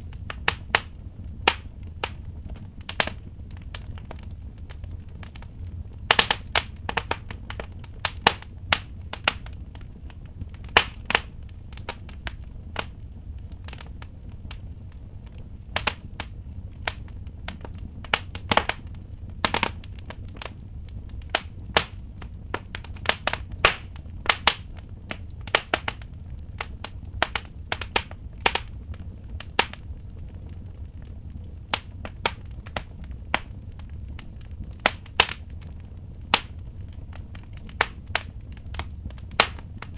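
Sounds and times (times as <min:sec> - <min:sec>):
low steady rumble: 0:00.0 - 0:39.9
wood fire crackling: 0:00.0 - 0:39.9.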